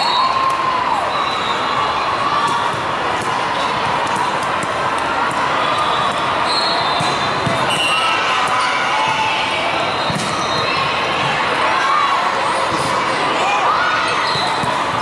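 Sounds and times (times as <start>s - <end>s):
crowd voices in sports hall: 0.0s - 15.0s.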